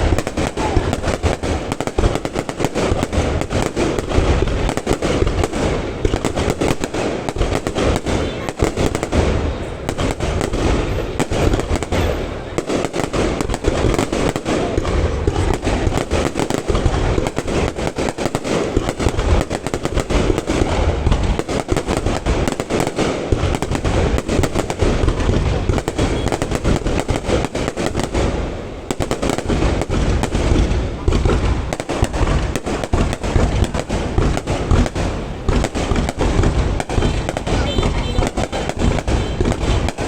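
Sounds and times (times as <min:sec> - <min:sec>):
fireworks deep booms: 0:00.0 - 0:40.0
fireworks sharp bangs: 0:00.0 - 0:40.0.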